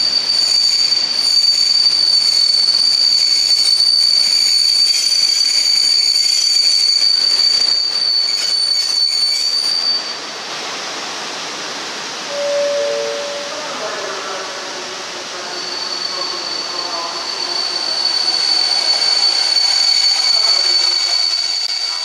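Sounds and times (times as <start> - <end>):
train wheels squealing on rail: 0.0 - 10.7, 12.2 - 22.0
train cars rumbling and rattling: 0.0 - 22.0.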